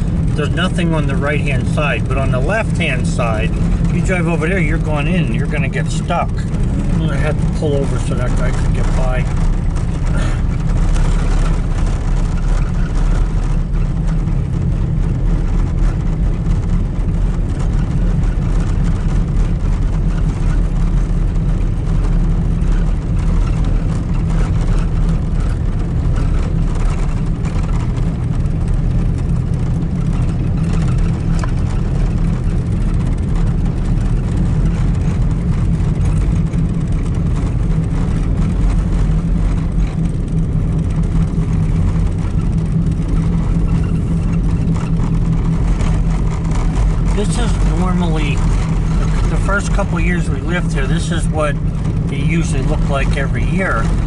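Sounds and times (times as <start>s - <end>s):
tyres on snow: 0.0s - 14.1s, 21.3s - 54.0s
vehicle engine drone: 0.0s - 54.0s.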